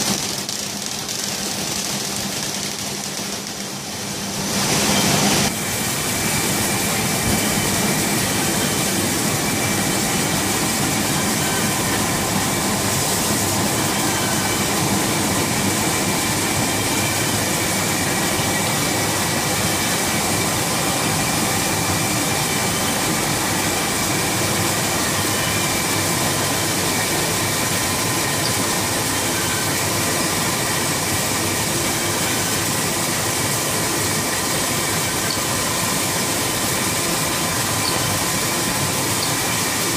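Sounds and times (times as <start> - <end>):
printing press running: 0.0 - 39.9
faint roller whine: 4.0 - 39.9.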